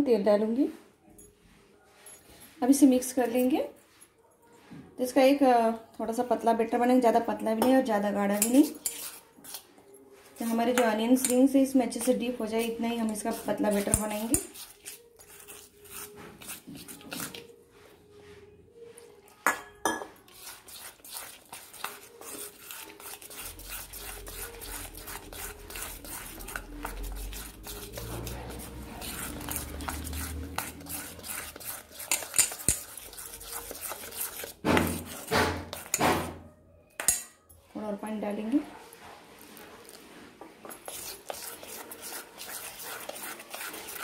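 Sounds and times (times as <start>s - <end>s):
batter mixed by hand in steel bowl: 5.0s - 36.4s, 37.8s - 44.0s.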